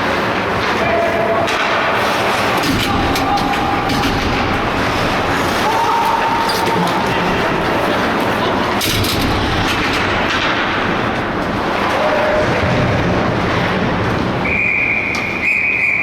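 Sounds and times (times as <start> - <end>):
ice hockey game noise: 0.0 - 16.0.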